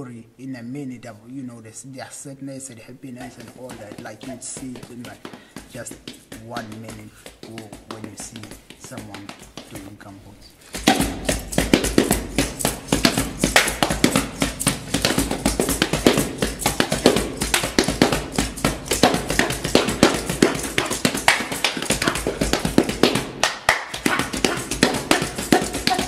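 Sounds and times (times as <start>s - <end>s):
boots stamping: 3.0s - 26.0s
hands slapping rubber boots: 3.1s - 26.0s.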